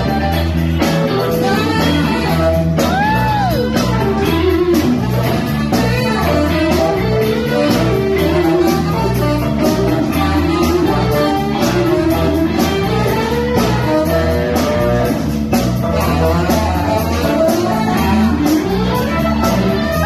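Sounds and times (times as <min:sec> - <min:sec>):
funk band playing: 0:00.0 - 0:20.0.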